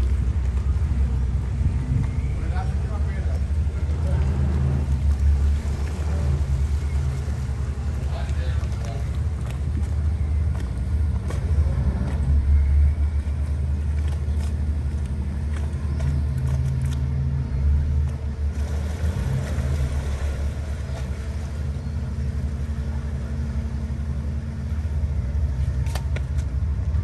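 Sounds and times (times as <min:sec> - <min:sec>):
boat diesel engines rumbling: 0:00.0 - 0:27.0.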